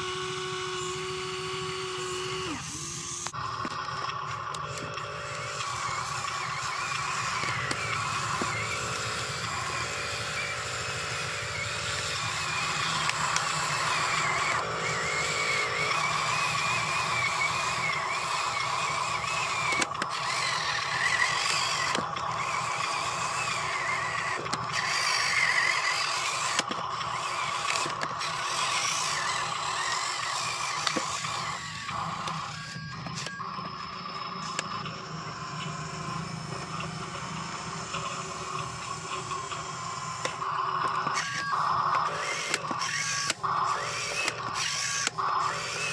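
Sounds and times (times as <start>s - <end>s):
toy truck electric motor whining: 0.0s - 45.9s.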